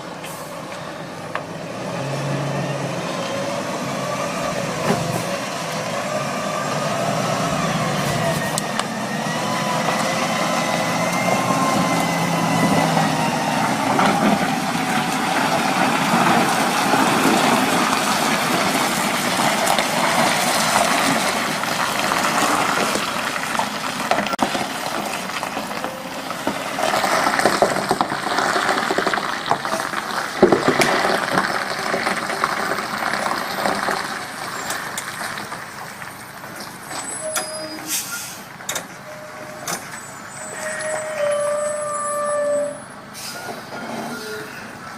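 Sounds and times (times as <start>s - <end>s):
heavy truck running: 0.0s - 44.9s.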